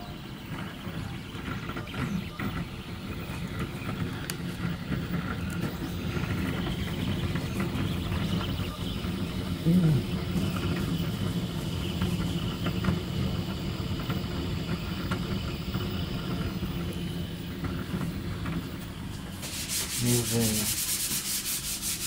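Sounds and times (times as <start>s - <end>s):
fast rhythmic hiss: 0.0s - 22.0s.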